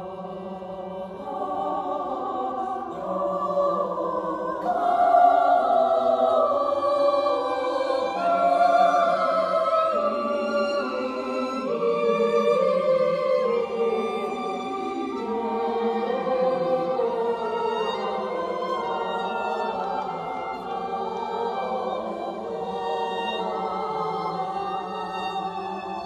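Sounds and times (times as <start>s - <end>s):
women's choir singing unaccompanied: 0.0s - 26.0s.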